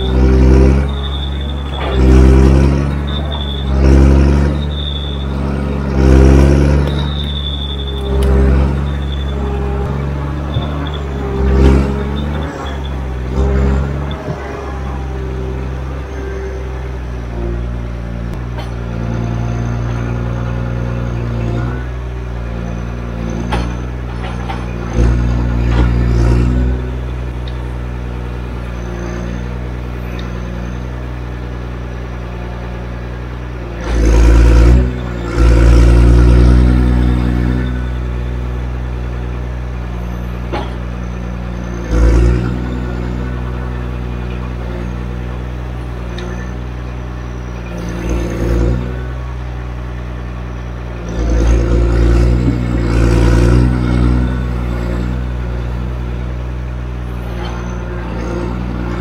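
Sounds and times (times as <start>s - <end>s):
diesel engine running: 0.0s - 59.0s
machine working noise surges: 0.0s - 59.0s.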